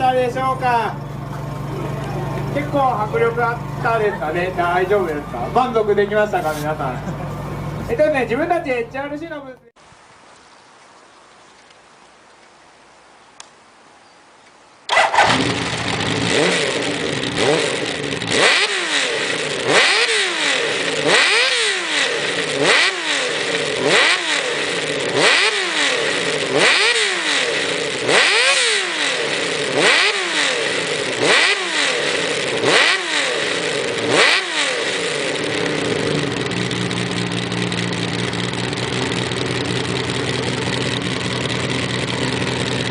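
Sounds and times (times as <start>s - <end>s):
motorcycle engine revving and idling: 0.0s - 9.2s, 14.9s - 42.9s.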